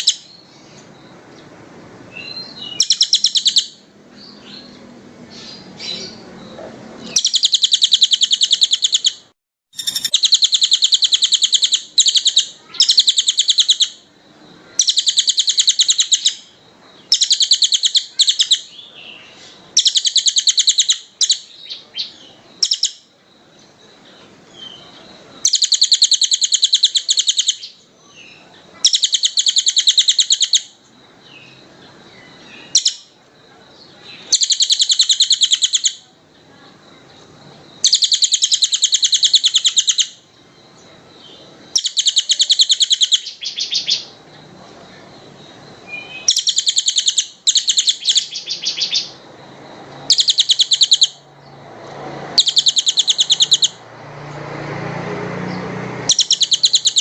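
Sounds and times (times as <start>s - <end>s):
songbird singing rapid high notes: 2.2s - 4.7s, 5.3s - 23.1s, 24.5s - 33.2s, 33.8s - 36.1s, 37.0s - 44.2s, 45.2s - 49.4s, 50.0s - 53.9s, 55.4s - 57.0s.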